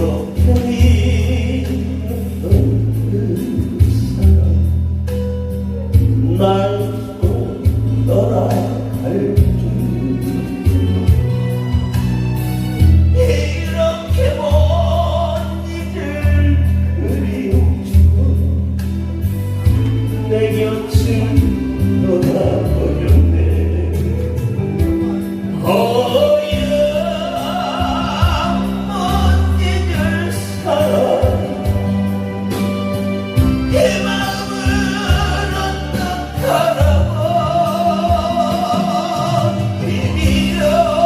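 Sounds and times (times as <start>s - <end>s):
backing track with bass line: 0.0s - 41.0s.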